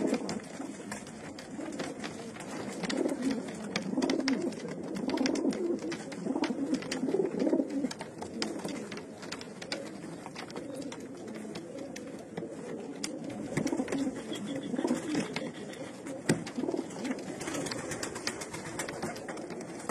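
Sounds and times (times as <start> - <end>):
pigeons cooing: 0.0 - 19.9
sharp clicks and taps: 0.0 - 19.9.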